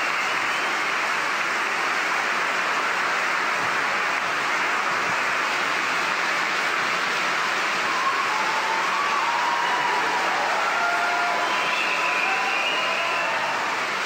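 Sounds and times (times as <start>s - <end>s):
large audience applauding: 0.0s - 14.0s.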